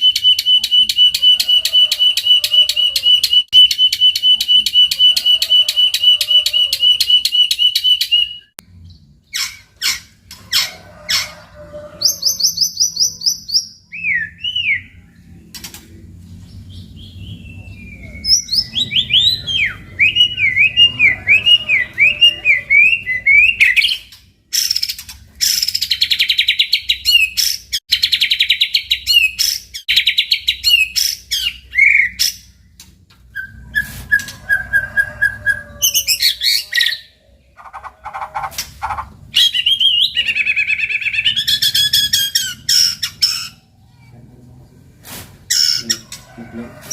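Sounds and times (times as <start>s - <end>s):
bird singing varied song: 0.0s - 10.2s, 12.0s - 15.5s, 16.2s - 44.2s.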